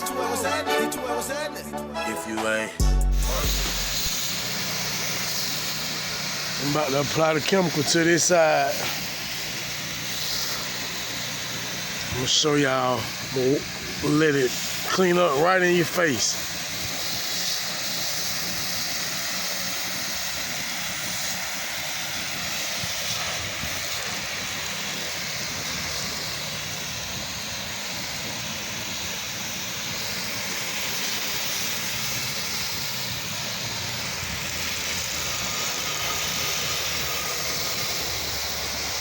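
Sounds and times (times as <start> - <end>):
pressure washer engine running: 0.0 - 39.0
spray hissing: 2.8 - 39.0.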